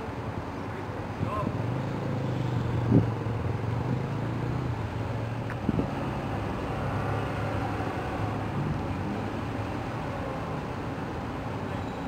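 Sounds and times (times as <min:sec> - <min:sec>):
outdoor background noise: 0:00.0 - 0:12.0
low engine hum: 0:00.8 - 0:11.4.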